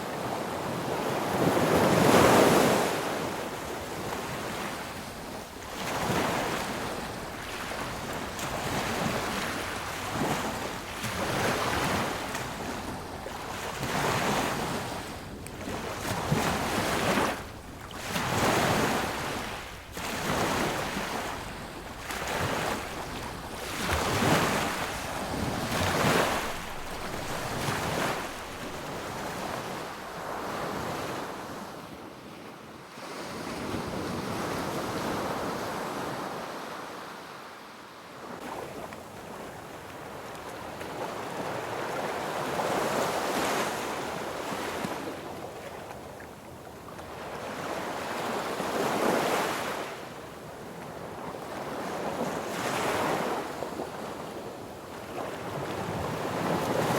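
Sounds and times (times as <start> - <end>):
sea waves breaking on beach: 0.0 - 31.8, 38.2 - 56.9.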